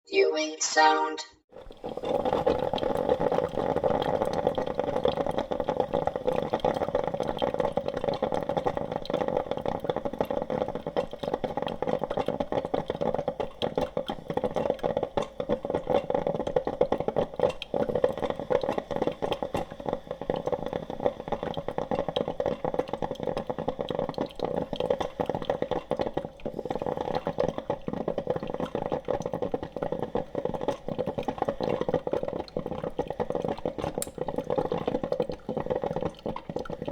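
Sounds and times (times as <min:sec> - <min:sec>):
coffee maker bubbling and sputtering: 0:01.5 - 0:36.9.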